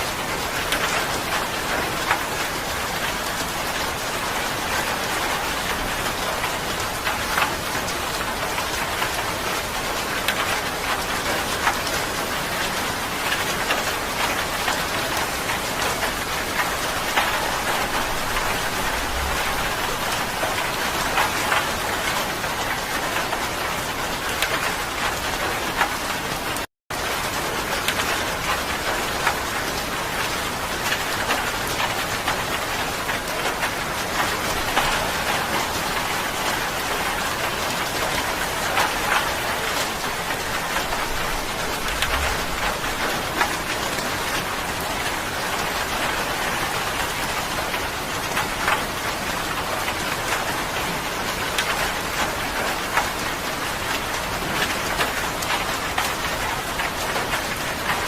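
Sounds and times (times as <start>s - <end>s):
raindrops hitting sharply: 0.0s - 58.0s
steady rain hissing: 0.0s - 58.0s.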